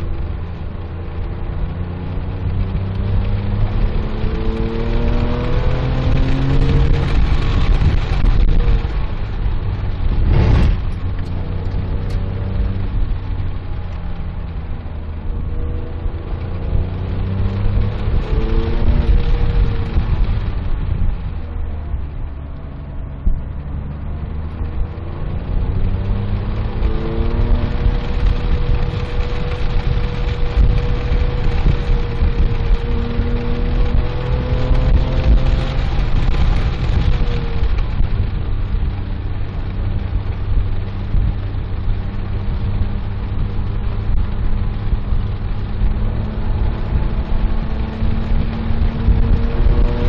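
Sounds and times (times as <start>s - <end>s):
car engine accelerating: 0.0s - 50.0s
road and wind noise: 0.0s - 50.0s.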